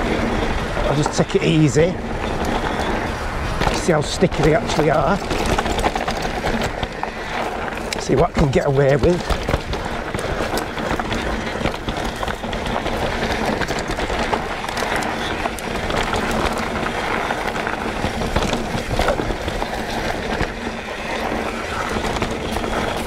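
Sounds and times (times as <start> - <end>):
bike rattling and knocking: 0.0 - 23.0
bike tyres crunching over gravel: 0.0 - 23.0.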